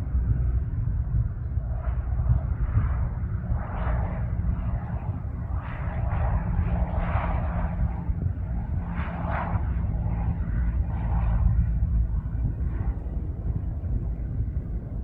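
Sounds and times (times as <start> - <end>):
small plane engine: 0.0 - 15.0.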